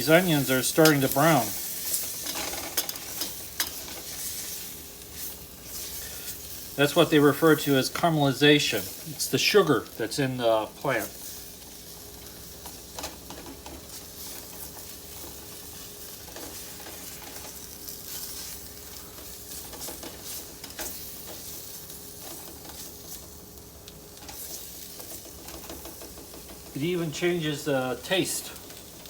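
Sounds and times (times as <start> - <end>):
onions sizzling in a pan: 0.0 - 29.0.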